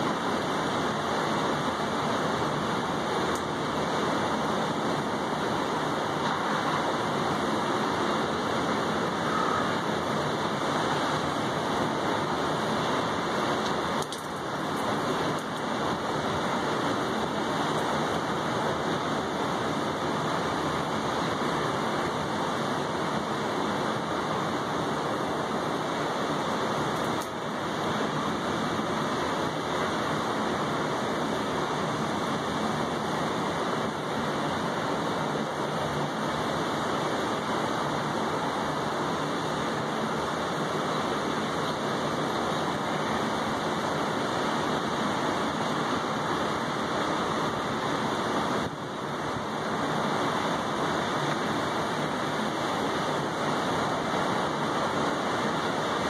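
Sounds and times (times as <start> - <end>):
rain on a balcony table: 0.0 - 56.0.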